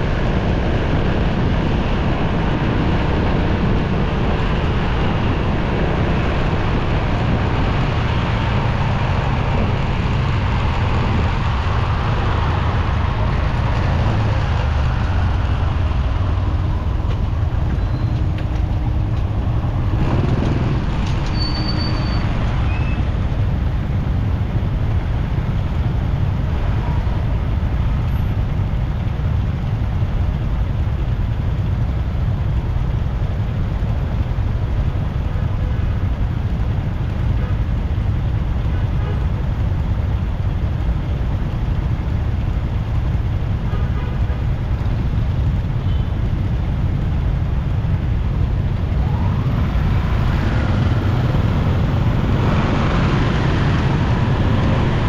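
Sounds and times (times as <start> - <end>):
motorcycle engine rumble: 0.0 - 55.0
wind and road noise: 0.0 - 55.0.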